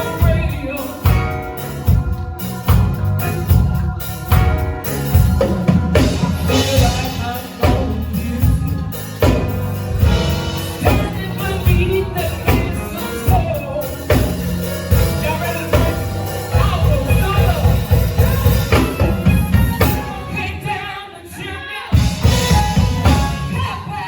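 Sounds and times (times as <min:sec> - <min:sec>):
drums and bass: 0:00.0 - 0:20.8, 0:21.9 - 0:24.0
person singing: 0:00.0 - 0:24.0.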